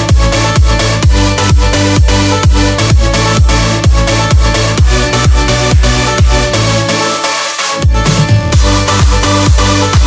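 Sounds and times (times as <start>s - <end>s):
kick drum beating: 0.0s - 6.5s, 7.8s - 10.0s
electronic dance music: 0.0s - 10.0s.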